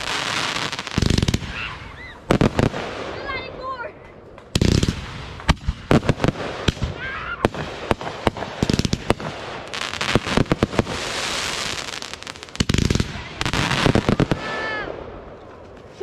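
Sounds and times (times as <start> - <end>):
fireworks hissing: 0.0 - 3.4, 4.6 - 14.9
fireworks bangs: 0.0 - 16.0.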